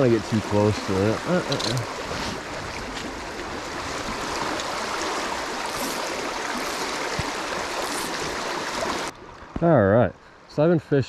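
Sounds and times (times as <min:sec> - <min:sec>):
creek water rushing over rocks: 0:00.0 - 0:09.6.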